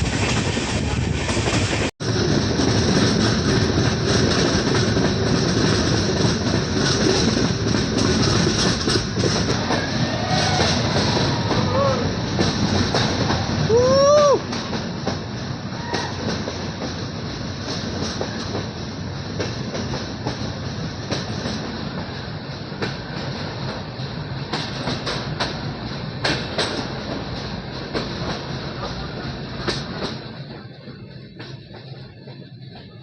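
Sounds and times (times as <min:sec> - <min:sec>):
train coach rumbling: 0:00.0 - 0:33.0
wheels clicking over rail joints: 0:00.0 - 0:33.0.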